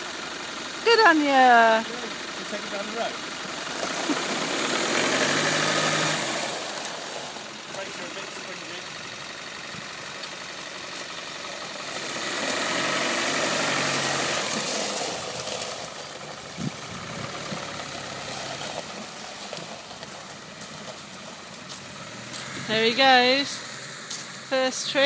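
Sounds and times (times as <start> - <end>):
diesel engine pulling away: 0.0 - 25.0.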